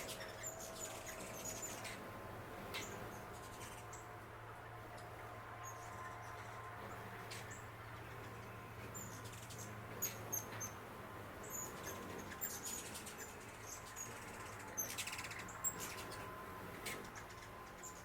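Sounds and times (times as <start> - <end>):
faint low hum: 0.0 - 18.0
small birds chirping: 0.0 - 18.0.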